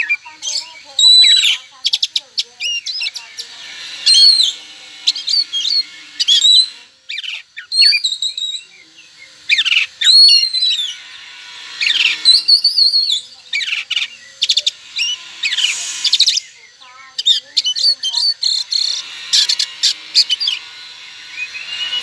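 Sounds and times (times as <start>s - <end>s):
songbird singing whistled phrases: 0.0s - 11.0s, 11.8s - 20.7s, 21.3s - 22.0s.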